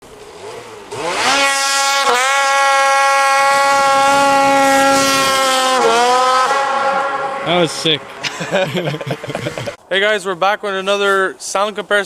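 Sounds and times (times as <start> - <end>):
snowmobile engine revving: 0.1 - 9.8.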